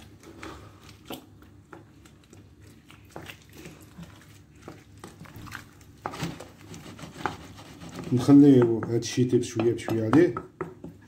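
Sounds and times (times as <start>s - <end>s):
wooden spoon stirring in pot: 0.0s - 11.0s.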